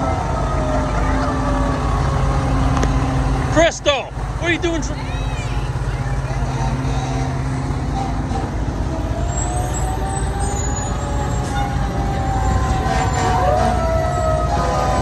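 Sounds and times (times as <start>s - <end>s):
fire truck siren: 0.0s - 15.0s
truck engine rumble: 0.0s - 15.0s.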